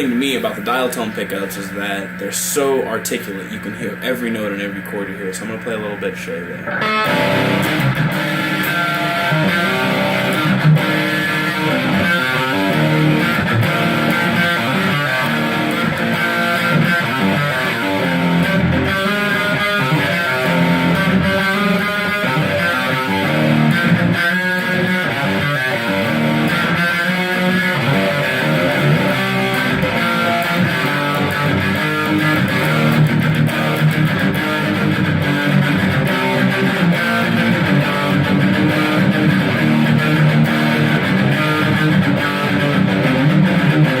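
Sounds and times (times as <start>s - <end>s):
high gain electric guitar riffs: 0.0s - 44.0s.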